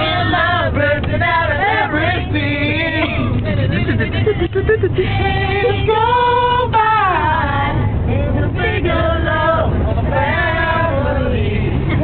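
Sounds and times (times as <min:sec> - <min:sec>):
bus rumble: 0:00.0 - 0:12.0
group of people singing: 0:00.0 - 0:12.0.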